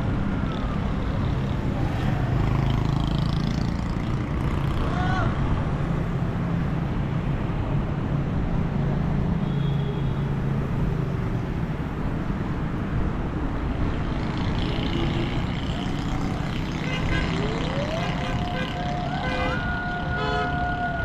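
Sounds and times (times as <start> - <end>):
vehicle engines running: 0.0 - 9.2, 10.5 - 21.0.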